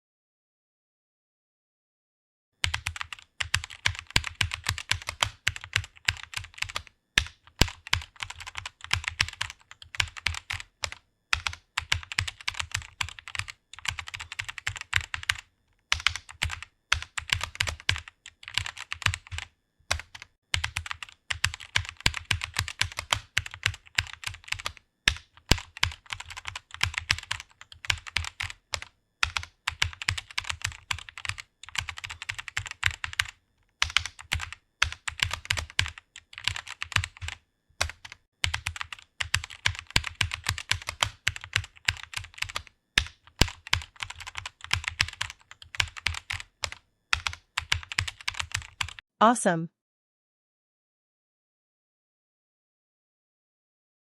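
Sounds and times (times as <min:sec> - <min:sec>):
fast typing on keyboard: 0:02.6 - 0:49.1.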